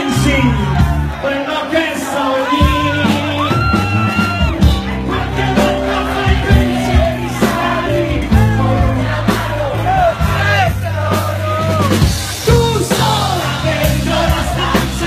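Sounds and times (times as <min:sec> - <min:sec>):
bass notes: 0:00.0 - 0:01.2, 0:02.6 - 0:15.0.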